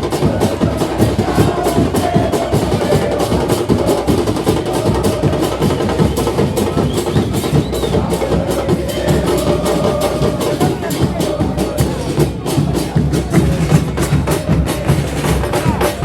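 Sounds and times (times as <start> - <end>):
drums beaten in fast rhythm: 0.0 - 16.0
music: 0.0 - 16.0.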